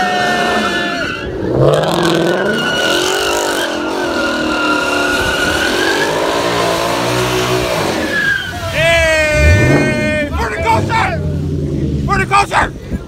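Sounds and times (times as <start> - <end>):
tyres squealing: 0.0 - 11.2
car engine revving: 0.0 - 12.5.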